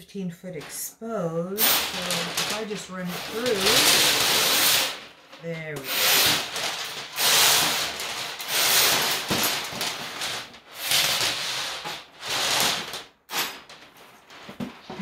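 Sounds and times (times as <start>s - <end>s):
steel cable scraping through metal tube: 1.6s - 13.6s.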